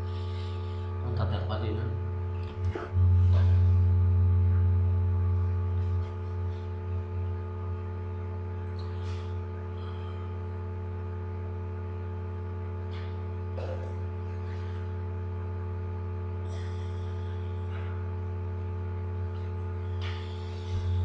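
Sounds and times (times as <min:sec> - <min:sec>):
low hum with overtones: 0:00.0 - 0:21.0.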